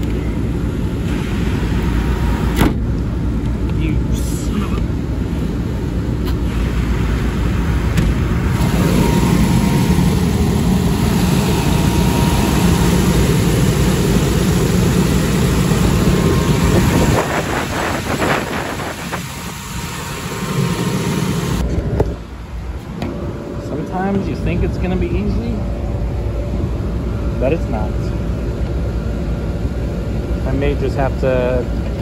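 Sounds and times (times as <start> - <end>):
air conditioning unit rumbling: 0.0 - 32.0.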